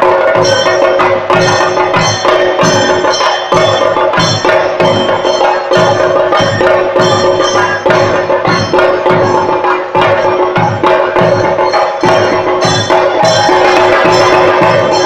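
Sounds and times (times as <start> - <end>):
drums beaten with sticks: 0.0 - 15.0
ringing metallic tone: 0.0 - 15.0.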